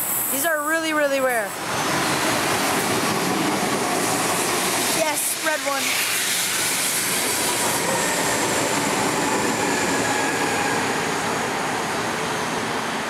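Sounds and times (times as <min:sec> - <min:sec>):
train wheels rumbling on rails: 0:01.5 - 0:13.0.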